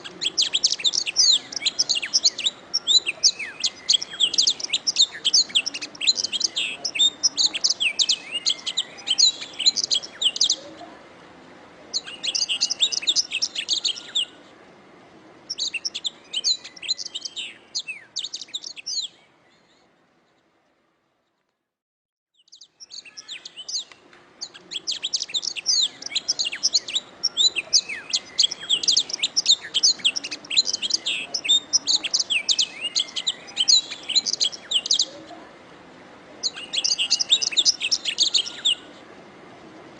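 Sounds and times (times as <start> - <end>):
canary singing: 0.0 - 10.7, 11.9 - 14.4, 15.5 - 19.2, 22.4 - 35.2, 36.4 - 39.0.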